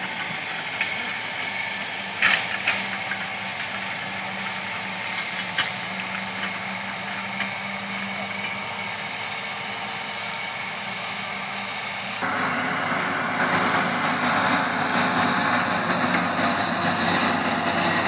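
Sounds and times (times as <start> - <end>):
hay tedder mechanical hum: 0.0 - 18.0.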